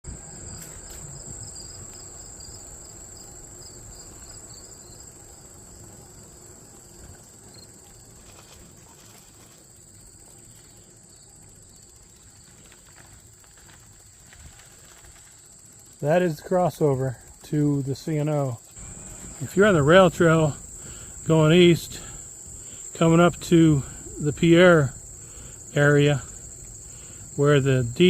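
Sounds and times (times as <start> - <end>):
fast pulsing insect chirp: 0.1 - 28.0
high-pitched insect chorus: 0.1 - 28.0.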